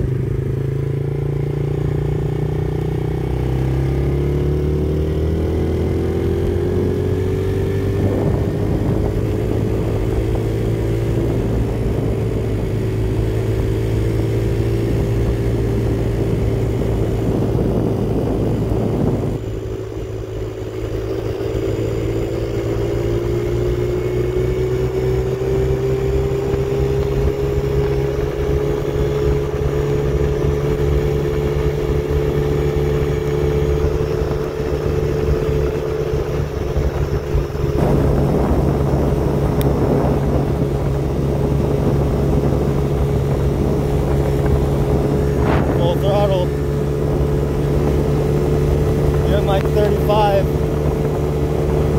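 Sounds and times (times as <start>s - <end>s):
motorcycle engine running: 0.0s - 51.9s
wind and road rushing: 0.0s - 51.9s.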